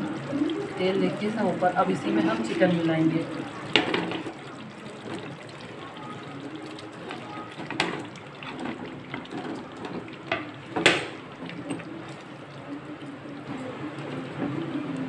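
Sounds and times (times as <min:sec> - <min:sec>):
gravy bubbling and sizzling: 0:00.0 - 0:15.0.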